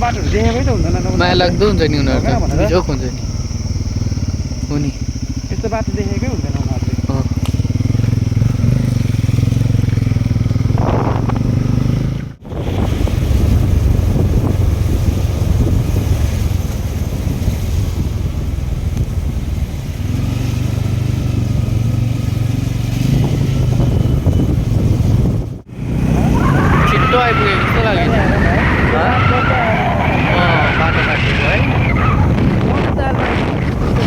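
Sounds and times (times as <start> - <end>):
motorcycle engine running: 0.0 - 34.0
road and wind rush: 0.0 - 34.0.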